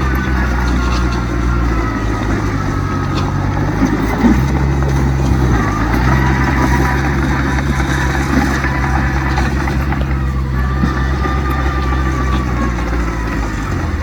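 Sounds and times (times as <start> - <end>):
diesel earthmover engine running: 0.0 - 14.0.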